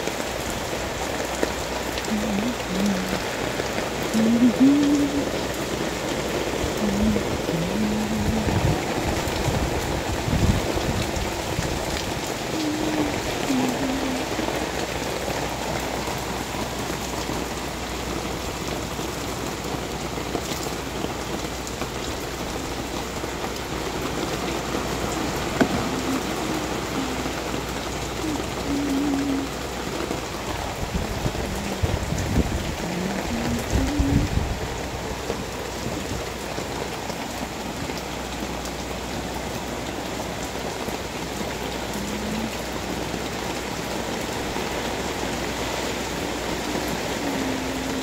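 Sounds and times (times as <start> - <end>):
heavy rain on concrete and leaves: 0.0 - 48.0.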